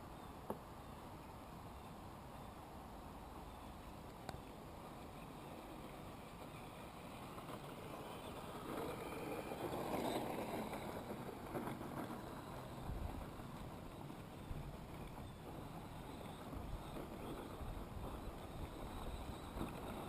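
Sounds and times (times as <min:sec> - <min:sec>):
rc car motor and tyres: 0:00.0 - 0:20.0.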